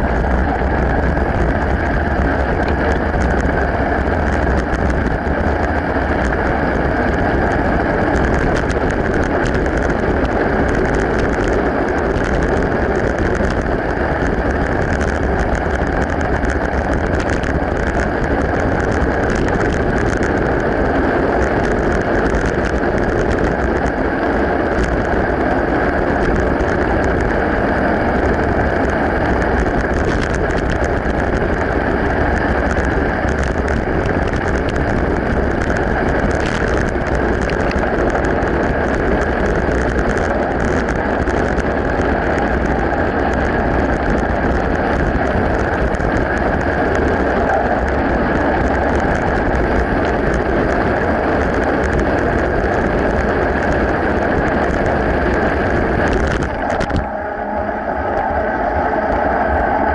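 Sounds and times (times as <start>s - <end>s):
crackling and rattling: 0.0s - 57.2s
bike tyres on gravel: 0.0s - 59.9s
wind on microphone: 0.0s - 59.9s.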